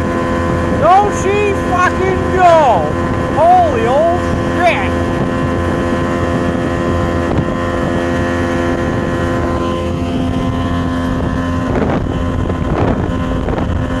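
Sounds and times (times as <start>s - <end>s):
outboard motor running: 0.0s - 13.4s.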